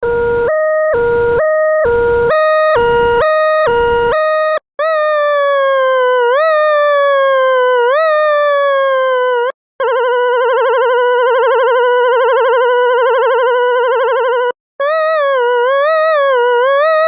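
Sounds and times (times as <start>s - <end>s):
electronic siren: 0.0s - 17.0s.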